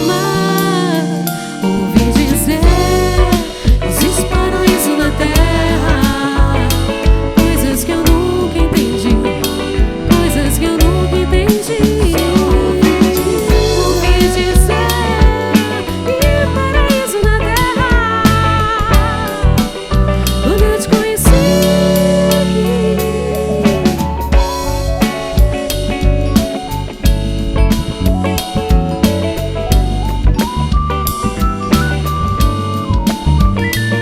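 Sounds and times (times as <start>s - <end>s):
bass: 0.0s - 34.0s
drum kit: 0.0s - 34.0s
guitar: 0.0s - 34.0s
lead melody line: 0.0s - 34.0s.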